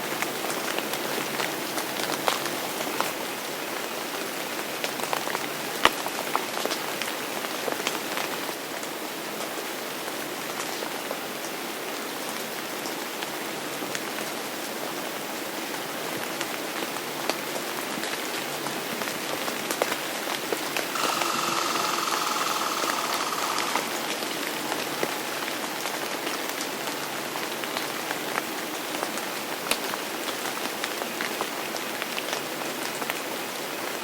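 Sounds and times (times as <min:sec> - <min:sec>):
rain on a hard surface: 0:00.0 - 0:20.6, 0:24.7 - 0:34.0.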